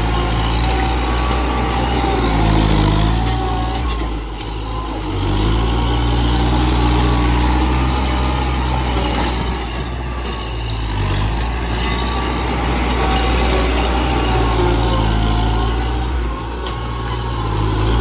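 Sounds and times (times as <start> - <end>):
heavy vehicle engine under load: 0.0 - 18.0.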